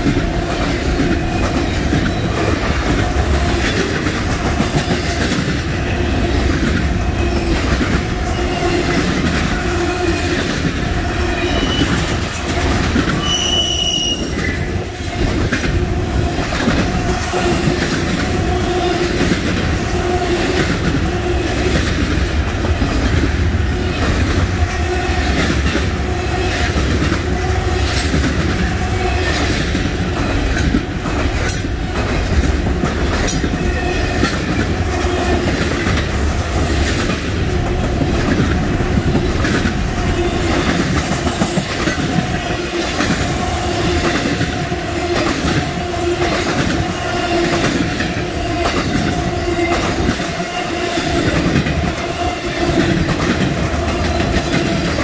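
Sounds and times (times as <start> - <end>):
freight train rumble: 0.0 - 55.0.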